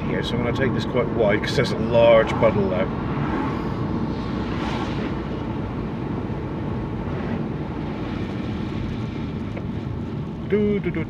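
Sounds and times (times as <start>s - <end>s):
low road rumble: 0.0s - 11.0s.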